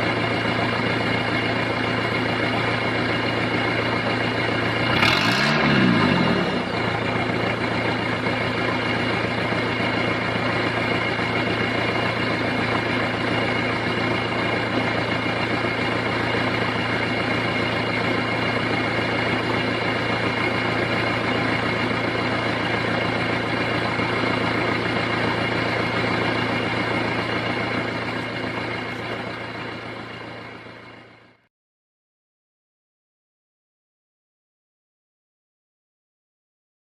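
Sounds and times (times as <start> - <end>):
diesel engine idling: 0.0 - 31.5.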